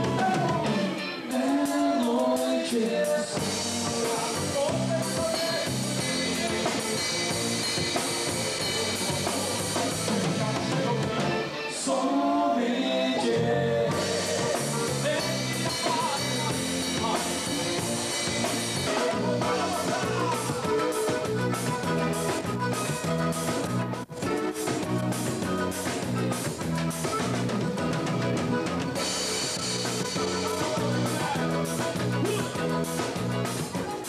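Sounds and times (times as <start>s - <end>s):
drum kit: 0.0s - 11.9s, 13.2s - 34.0s
electric guitar: 0.0s - 34.0s
piano accordion: 2.8s - 34.0s.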